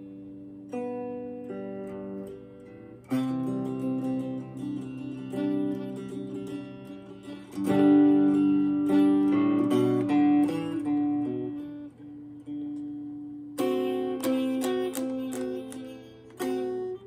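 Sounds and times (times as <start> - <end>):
acoustic blues guitar: 0.0 - 17.0.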